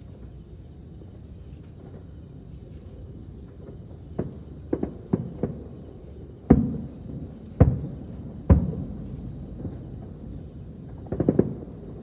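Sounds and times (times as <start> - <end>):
distant fireworks bursting: 1.6 - 12.0.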